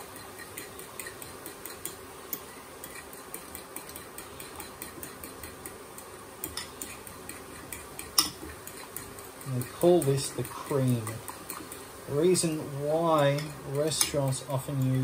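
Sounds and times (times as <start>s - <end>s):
fork beating eggs in bowl: 0.0s - 15.0s.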